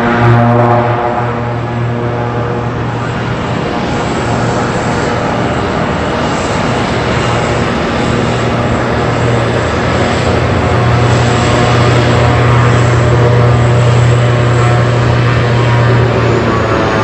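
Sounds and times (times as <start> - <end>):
propeller drone: 0.0 - 17.0
thin high turbine whine: 0.0 - 17.0.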